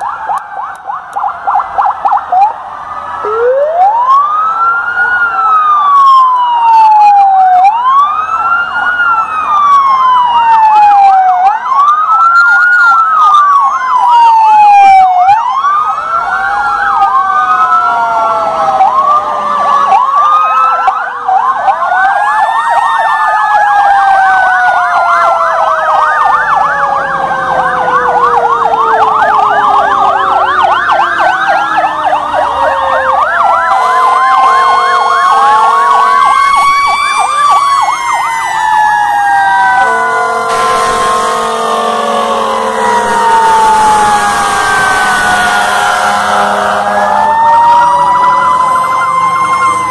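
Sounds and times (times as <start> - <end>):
fast yelp siren: 0.0 - 49.9
siren tone winding down: 0.0 - 49.9
wailing siren: 0.0 - 49.9.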